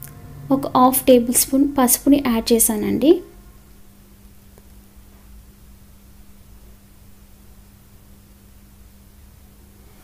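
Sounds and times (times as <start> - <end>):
faint steady hiss: 0.0 - 10.0
low hum: 0.0 - 10.0.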